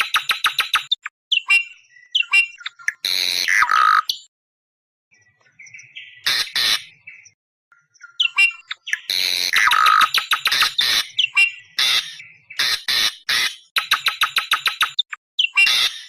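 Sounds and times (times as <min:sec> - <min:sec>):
harsh squawking bird calls: 0:00.0 - 0:04.3, 0:05.6 - 0:07.4, 0:08.0 - 0:16.0.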